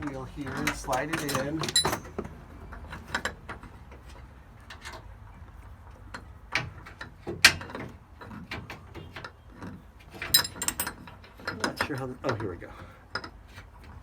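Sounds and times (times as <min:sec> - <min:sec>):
metal clicks and knocks: 0:00.0 - 0:14.0.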